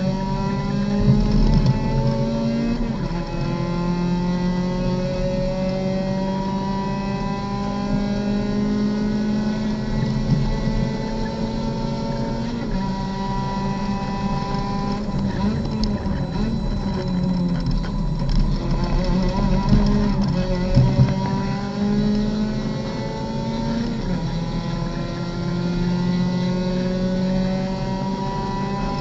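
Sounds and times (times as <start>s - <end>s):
race car engine at full throttle: 0.0s - 29.0s.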